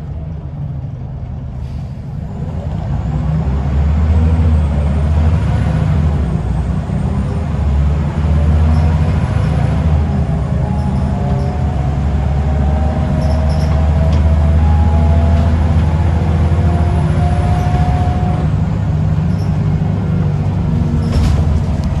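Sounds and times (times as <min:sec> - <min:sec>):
bus engine running hard: 0:00.0 - 0:22.0.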